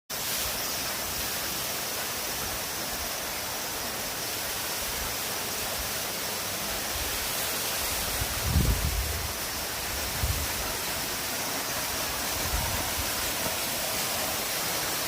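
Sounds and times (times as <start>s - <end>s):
waterfall rushing: 0.2s - 15.0s.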